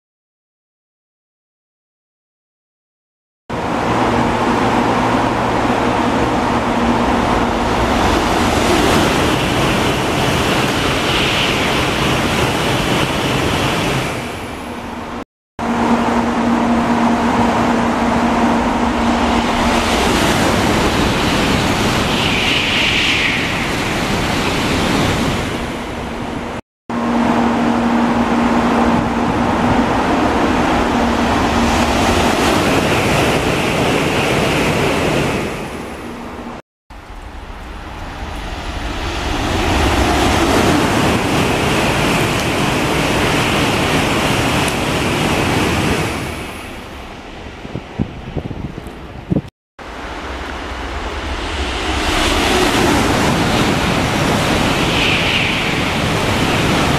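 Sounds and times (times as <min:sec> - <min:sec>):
bullet train rushing past: 0:03.5 - 0:56.9.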